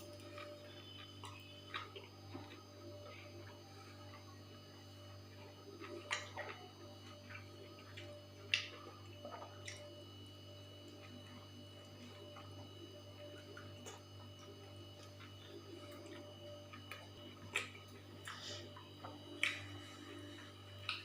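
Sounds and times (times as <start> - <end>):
person chewing: 0.0 - 4.3, 5.3 - 10.0, 10.9 - 21.0
low electrical hum: 0.0 - 21.0.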